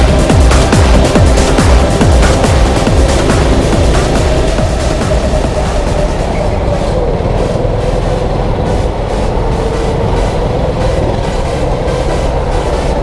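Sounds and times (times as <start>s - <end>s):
chassis rumble: 0.0s - 13.0s
go-kart motor whining: 0.0s - 13.0s.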